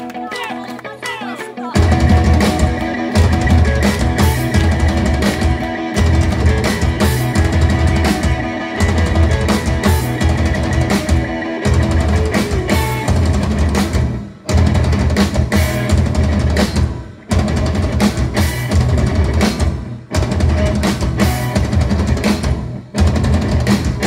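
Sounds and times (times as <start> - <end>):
rock band playing loud: 0.0 - 24.0
drum kit pounding: 1.8 - 24.0.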